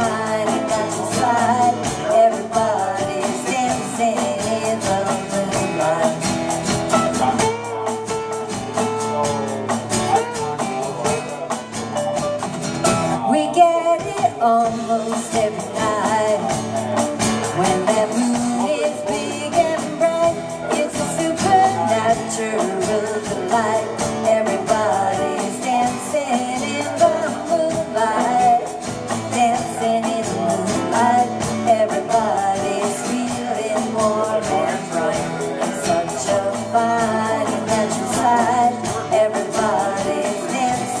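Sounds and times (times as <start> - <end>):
person singing: 0.0 - 12.4, 13.1 - 41.0
acoustic guitar: 0.0 - 41.0
drum kit: 0.0 - 41.0
electric lead guitar: 0.0 - 41.0.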